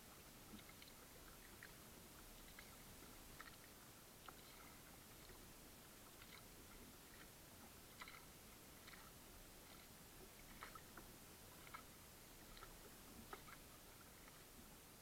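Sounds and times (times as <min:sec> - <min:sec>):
faint small ticks and clicks: 0:00.0 - 0:14.8.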